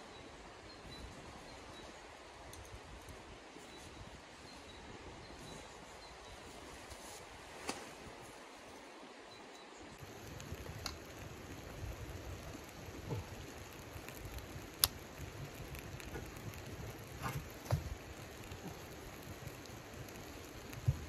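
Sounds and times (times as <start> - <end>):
wood fire crackling: 0.0 - 8.8, 10.0 - 21.0.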